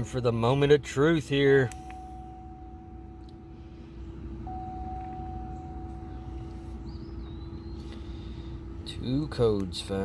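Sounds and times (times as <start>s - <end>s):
car engine idling: 0.0s - 10.0s
constant tone: 0.0s - 10.0s.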